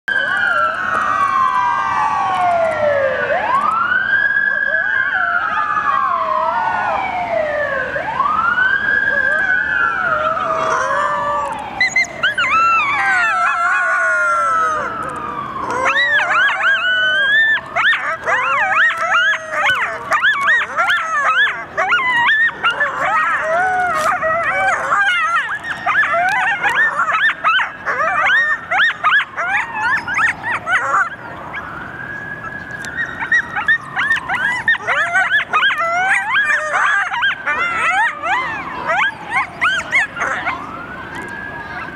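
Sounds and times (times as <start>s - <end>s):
coyotes howling and yipping: 0.1s - 3.6s, 4.2s - 41.9s
emergency siren wailing: 0.1s - 41.9s.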